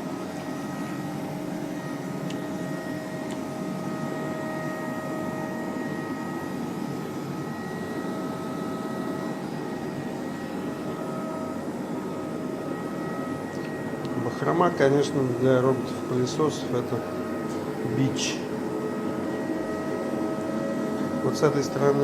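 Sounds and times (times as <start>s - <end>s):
high whine: 0.0s - 22.0s.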